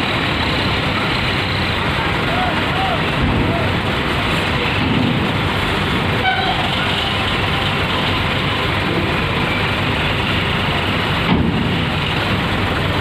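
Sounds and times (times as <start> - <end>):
bus engine rumbling: 0.0 - 13.0
dense background noise: 0.0 - 13.0.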